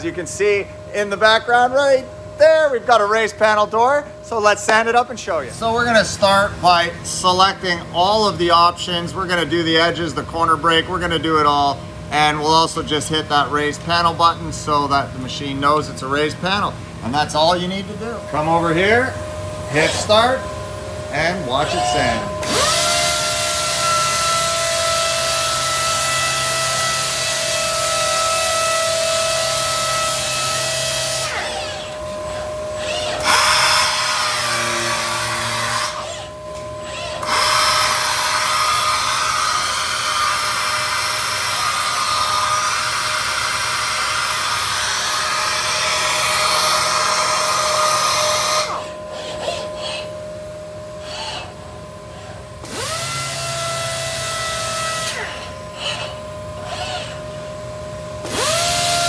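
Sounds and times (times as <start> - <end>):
orbital sander hiss and whine: 2.8 - 59.0.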